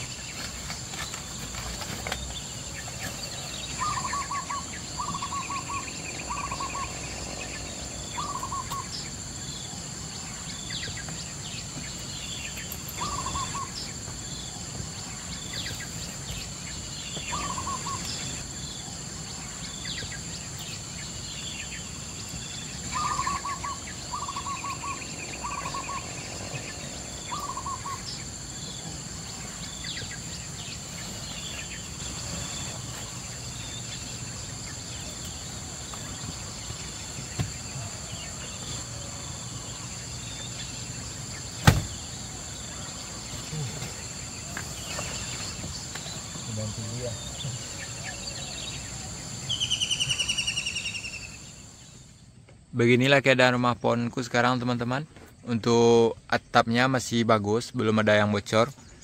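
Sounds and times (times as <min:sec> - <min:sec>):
high insect drone: 0:00.0 - 0:59.0
small birds chirping: 0:00.0 - 0:59.0
bird giving low calls: 0:02.6 - 0:51.8.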